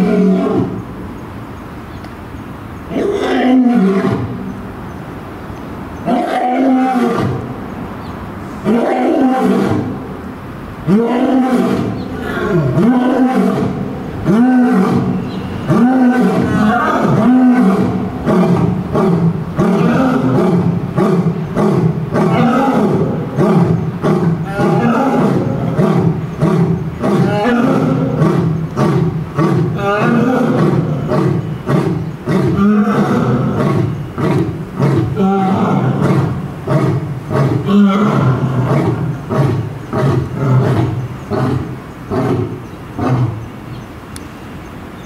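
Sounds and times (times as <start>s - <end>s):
lion roaring: 0.0s - 0.8s, 2.9s - 4.5s, 6.1s - 7.5s, 8.6s - 10.1s, 10.8s - 43.4s.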